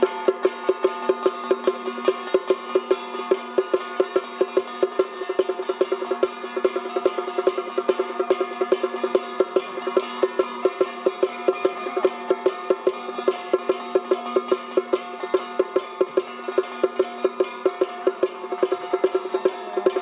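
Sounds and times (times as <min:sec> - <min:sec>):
fast percussion beat: 0:00.0 - 0:20.0
steady ringing tone: 0:00.0 - 0:20.0.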